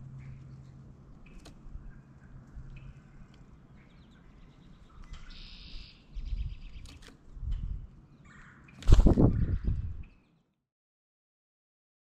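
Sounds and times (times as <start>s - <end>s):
birds calling and chirping: 0.0s - 10.5s.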